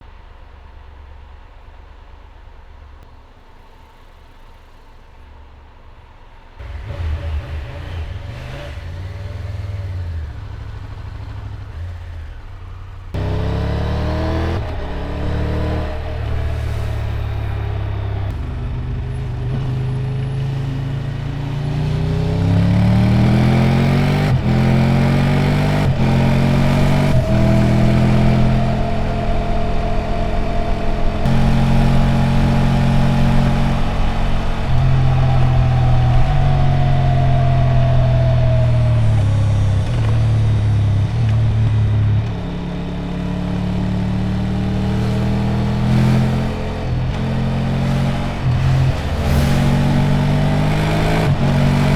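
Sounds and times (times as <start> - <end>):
motorcycle engine: 6.6 - 51.9.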